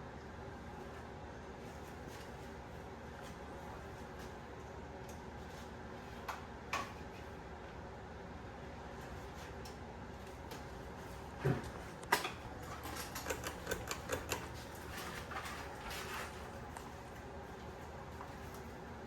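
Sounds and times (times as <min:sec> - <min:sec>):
ceiling fan humming: 0:00.0 - 0:19.0.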